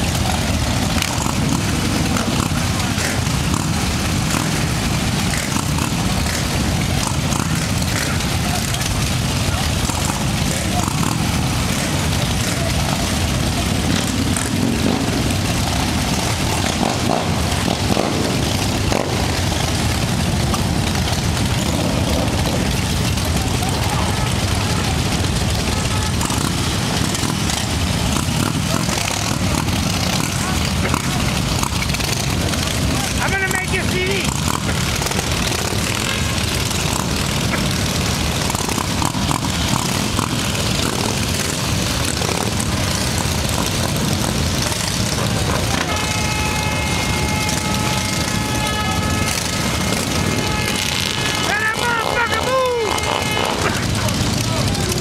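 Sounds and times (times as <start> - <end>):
motorcycle engines rumbling: 0.0 - 55.0.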